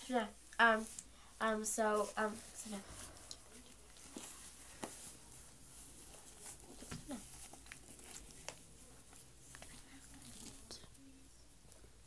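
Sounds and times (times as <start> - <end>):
cloth rustling: 0.0 - 10.9.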